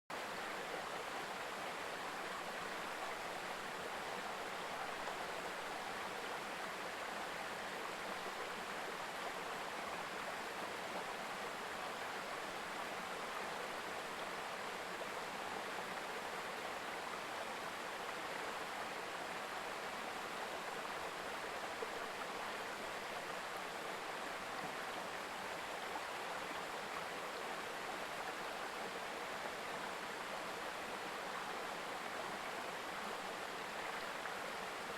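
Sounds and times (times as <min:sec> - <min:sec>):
mountain stream babbling: 0:00.1 - 0:34.9.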